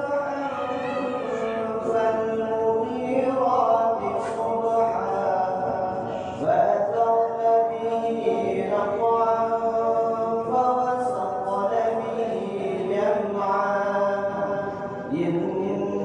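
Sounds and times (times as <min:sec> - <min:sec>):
man chanting unaccompanied: 0:00.0 - 0:16.0.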